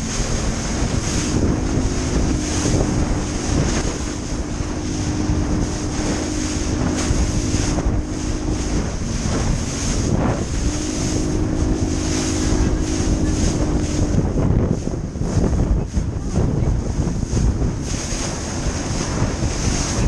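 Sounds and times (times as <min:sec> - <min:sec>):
boat engine humming: 0:00.0 - 0:20.0
water against hull: 0:00.0 - 0:20.0
wind buffeting microphone: 0:00.0 - 0:20.0.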